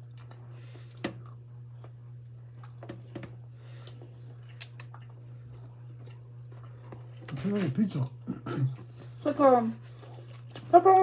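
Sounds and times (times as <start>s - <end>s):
quiet chewing: 0.0s - 11.0s
steady low hum: 0.0s - 11.0s.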